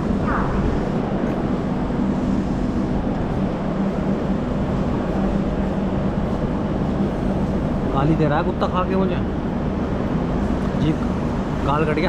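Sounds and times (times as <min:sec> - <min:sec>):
standing train rumble and hum: 0:00.0 - 0:12.0.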